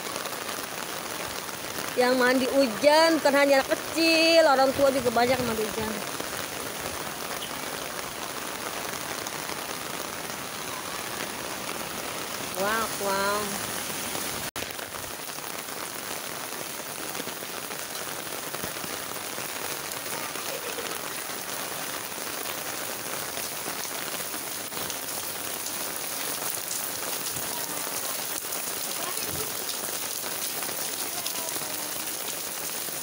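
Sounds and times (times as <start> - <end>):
rain on pavement and roofs: 0.0 - 33.0.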